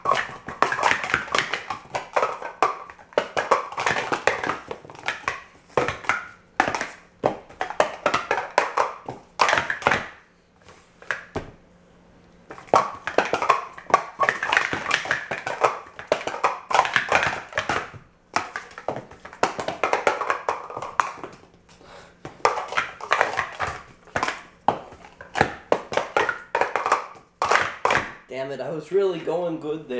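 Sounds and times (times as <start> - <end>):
plastic cups clattering: 0.0 - 11.4, 12.5 - 28.3.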